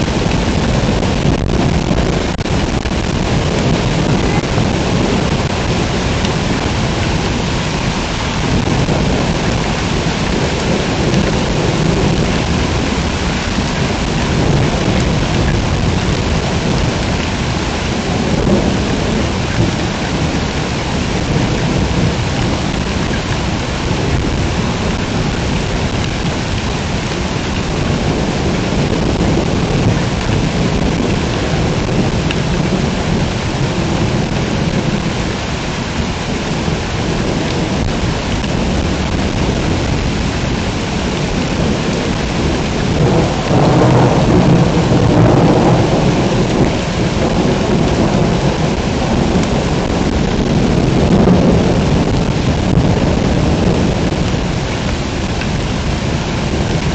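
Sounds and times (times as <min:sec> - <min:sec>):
heavy rain pouring: 0:00.0 - 0:56.9
thunder rumbling: 0:00.0 - 0:56.9.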